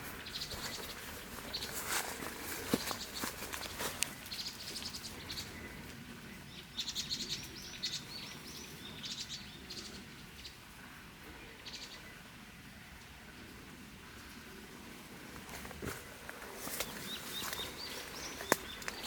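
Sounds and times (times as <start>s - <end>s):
songbird chirping: 0.0s - 14.7s, 15.4s - 19.0s.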